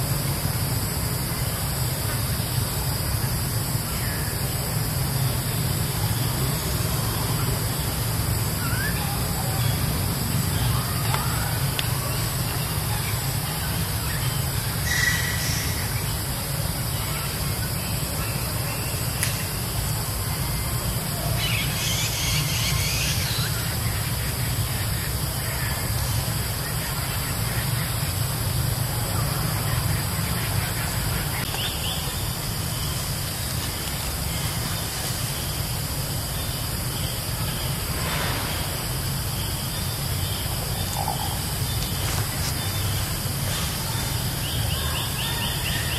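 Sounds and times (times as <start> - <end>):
even hiss: 0.0 - 45.9.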